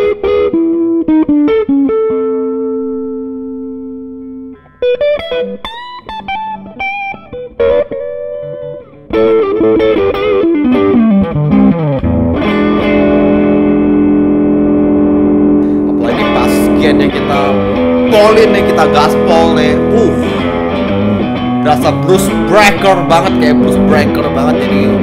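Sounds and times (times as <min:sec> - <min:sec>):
overdriven electric guitar: 0:00.0 - 0:25.0.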